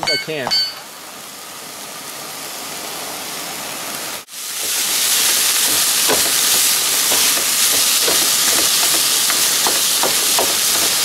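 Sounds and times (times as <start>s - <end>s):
meat sizzling in a frying pan: 0.9s - 11.0s.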